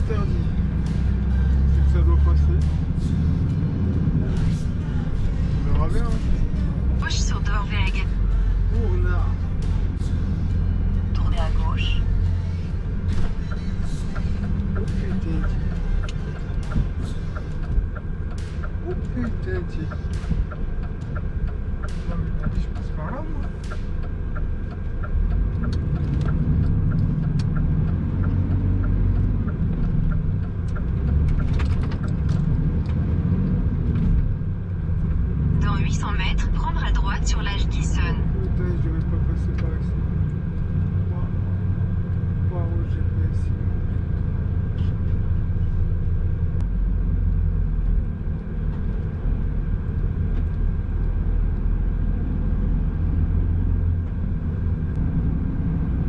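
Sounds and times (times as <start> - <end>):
diesel engine rumbling: 0.0 - 56.0
road noise: 0.0 - 56.0
turn indicator ticking: 0.0 - 56.0.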